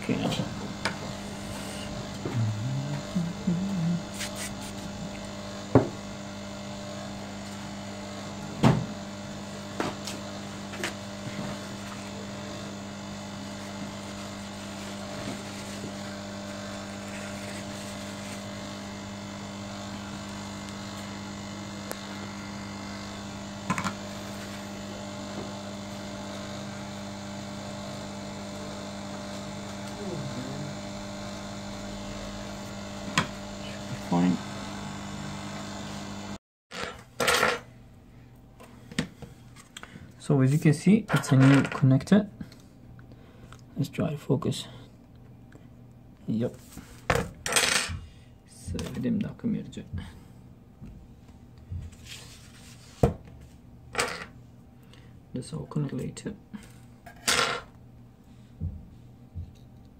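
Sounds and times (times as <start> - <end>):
electrical hum: 0.0 - 59.9.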